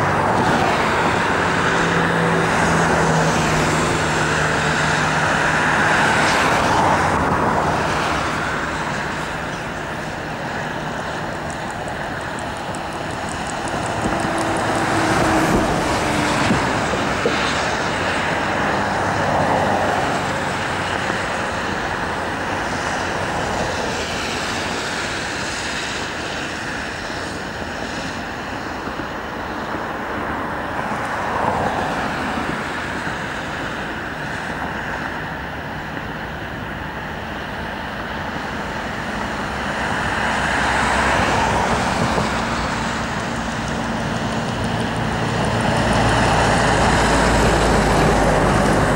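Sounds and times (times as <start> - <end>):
road traffic: 0.0 - 48.9
vehicles passing by: 0.0 - 48.9.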